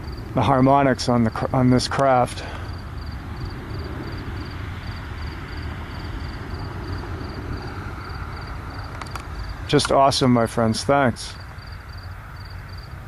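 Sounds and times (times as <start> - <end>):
crickets chirping: 0.0 - 13.0
distant aircraft rumble: 0.0 - 13.0.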